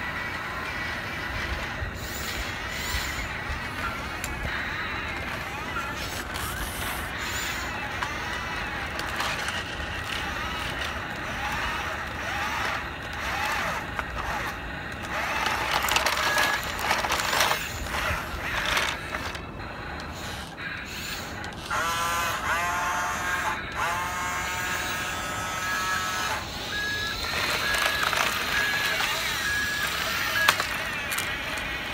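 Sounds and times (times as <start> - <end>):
motor whine rising in pitch: 0.0 - 31.9
toy electric motors whirring: 0.0 - 31.9
wheels rolling over grit: 0.0 - 31.9.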